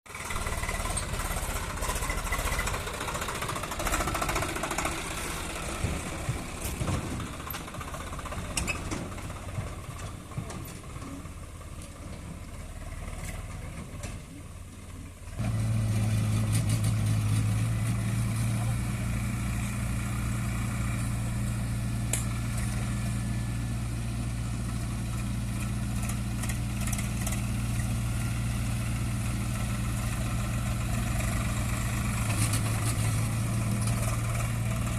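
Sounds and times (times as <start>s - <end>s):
diesel engine running close by: 0.1s - 34.9s
diesel machinery engines running: 0.1s - 34.9s
outdoor noise: 0.1s - 34.9s.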